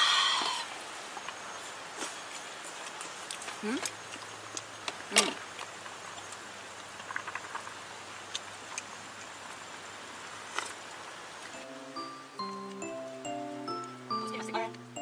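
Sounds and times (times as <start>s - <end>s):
steady rain: 0.0s - 7.0s, 7.8s - 15.0s.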